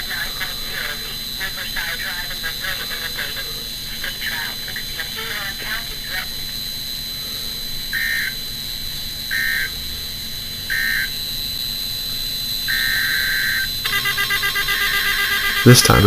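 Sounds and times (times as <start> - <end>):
buzzy two-tone data bursts: 0.0 - 16.0
rapid pulsing tone: 0.0 - 16.0.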